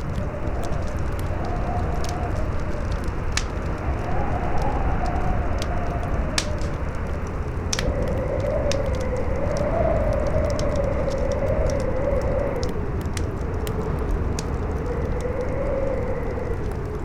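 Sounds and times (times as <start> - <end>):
campfire crackling and popping: 0.0 - 17.0
strong howling wind: 0.0 - 17.0.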